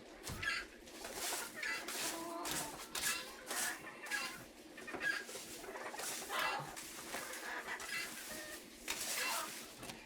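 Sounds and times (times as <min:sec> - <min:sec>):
poultry clucking and chirping: 0:00.0 - 0:10.0.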